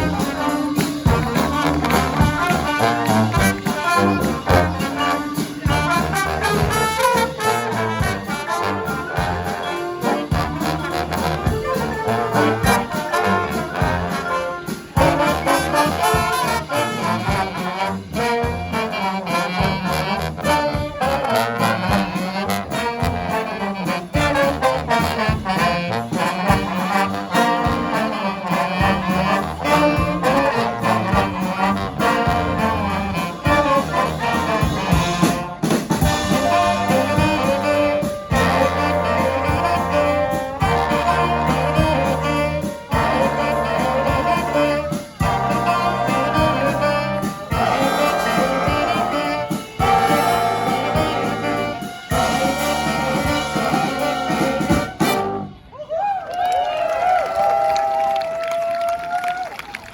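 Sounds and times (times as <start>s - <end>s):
brass band playing: 0.0s - 55.7s.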